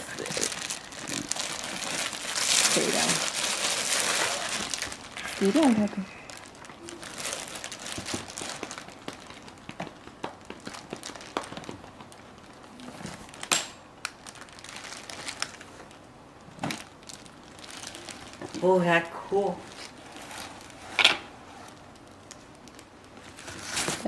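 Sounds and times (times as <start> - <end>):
packaging crinkling and rustling: 0.0 - 18.8, 19.6 - 24.0.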